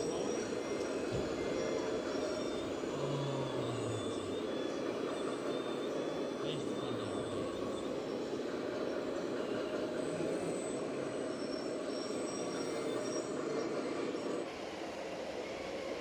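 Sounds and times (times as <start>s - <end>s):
model vehicle motor running: 0.0s - 14.5s
faint high whines: 0.0s - 16.0s.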